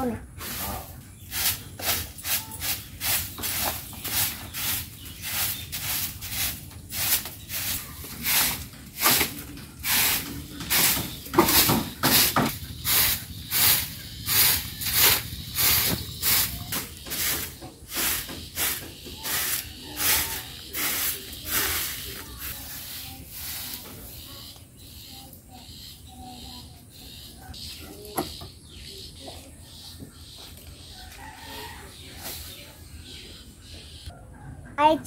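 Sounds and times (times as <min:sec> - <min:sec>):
broom sweeping dirt yard: 0:00.0 - 0:33.3.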